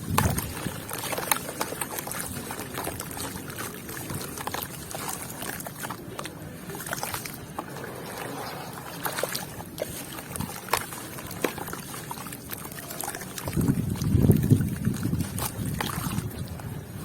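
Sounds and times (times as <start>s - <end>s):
water sloshing: 0.0s - 17.0s.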